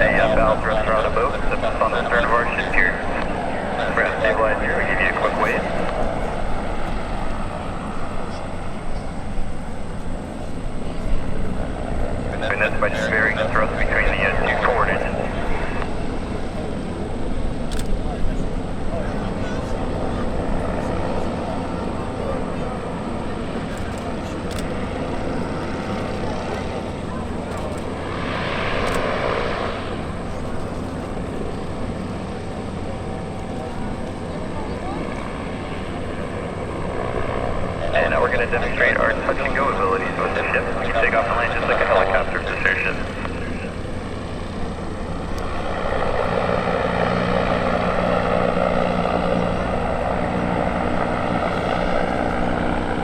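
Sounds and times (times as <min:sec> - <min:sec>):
airship engine and propeller drone: 0:00.0 - 0:53.0.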